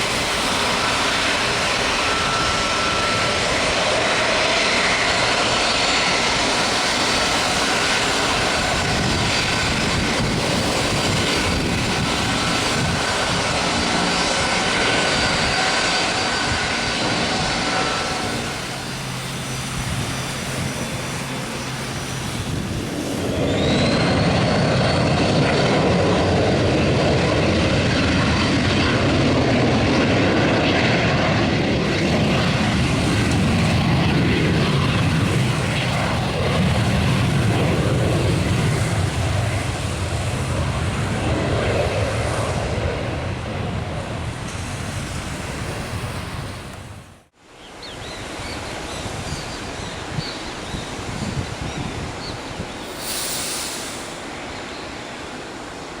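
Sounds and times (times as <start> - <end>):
wind noise on microphone: 0.0 - 54.4
passing plane engine: 0.0 - 56.0.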